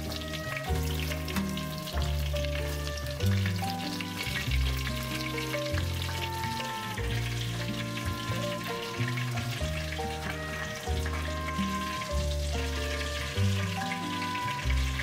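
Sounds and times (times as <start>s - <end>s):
background music: 0.0s - 15.0s
food sizzling in a pan: 0.0s - 15.0s.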